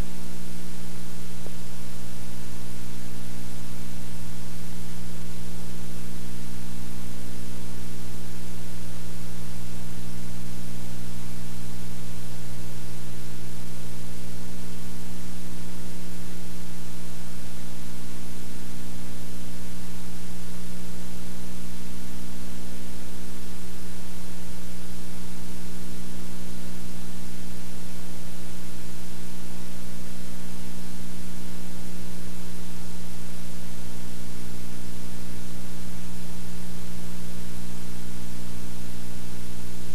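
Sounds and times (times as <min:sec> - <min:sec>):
electrical mains hum: 0:00.0 - 0:39.9
static hiss: 0:00.0 - 0:39.9.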